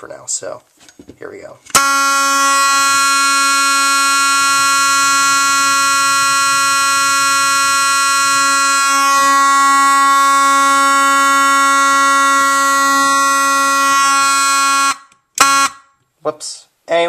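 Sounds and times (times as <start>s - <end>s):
fire alarm horn: 1.7s - 16.0s.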